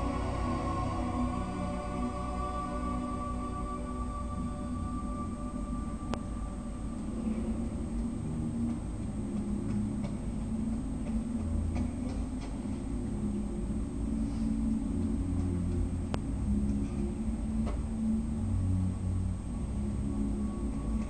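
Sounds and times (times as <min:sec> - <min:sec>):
aquarium equipment humming: 0:00.0 - 0:21.0.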